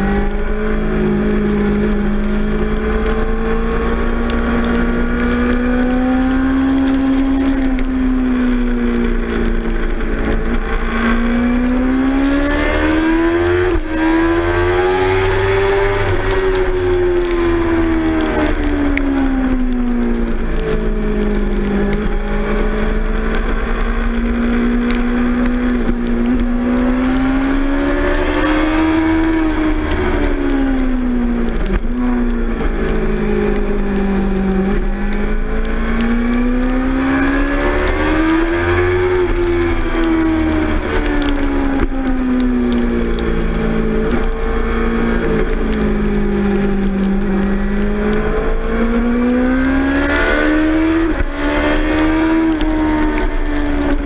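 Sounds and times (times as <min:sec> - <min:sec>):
motorcycle engine: 0:00.0 - 0:54.0
wet road spray: 0:00.2 - 0:54.0.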